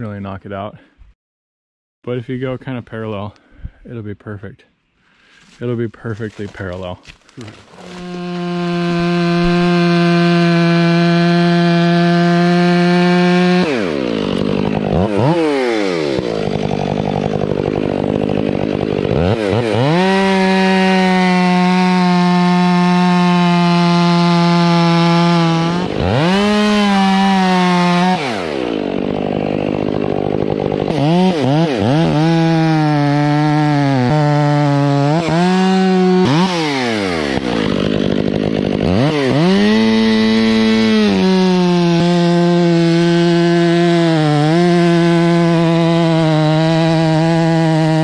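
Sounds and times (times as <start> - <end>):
chainsaw cutting tree trunk: 6.3 - 48.0.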